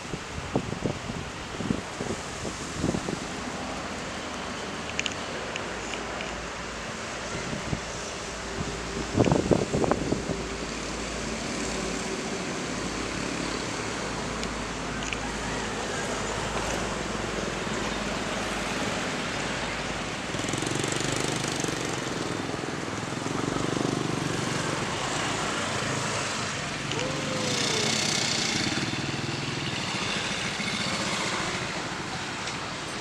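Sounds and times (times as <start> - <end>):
road traffic noise: 0.0 - 33.0
vehicles passing: 0.0 - 33.0.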